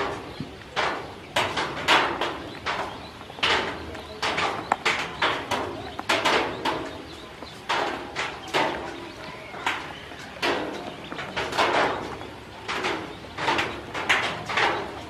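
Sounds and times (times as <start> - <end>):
ducklings in a plastic tub: 0.0 - 15.0.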